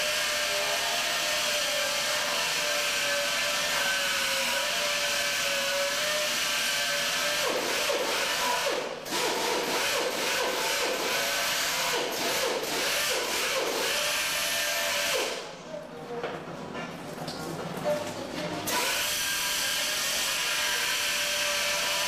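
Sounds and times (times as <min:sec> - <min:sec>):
electric grinder grinding stone: 0:00.0 - 0:15.2, 0:18.7 - 0:22.0.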